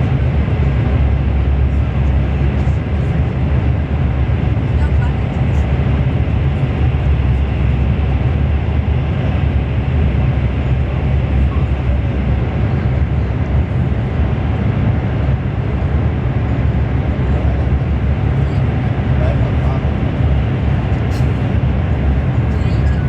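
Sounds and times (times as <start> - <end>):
train low rumble inside cabin: 0.0 - 23.0.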